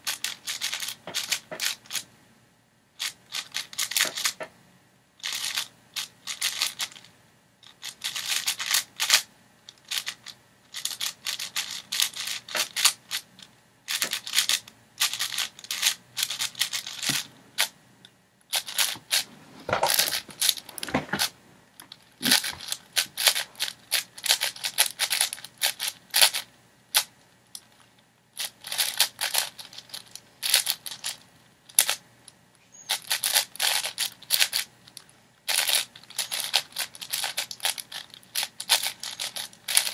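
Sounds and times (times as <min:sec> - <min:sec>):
puzzle cube plastic clicking: 0:00.1 - 0:02.0, 0:03.0 - 0:04.5, 0:05.2 - 0:13.2, 0:13.9 - 0:17.7, 0:18.5 - 0:19.3, 0:19.9 - 0:27.8, 0:28.4 - 0:32.0, 0:32.9 - 0:39.9.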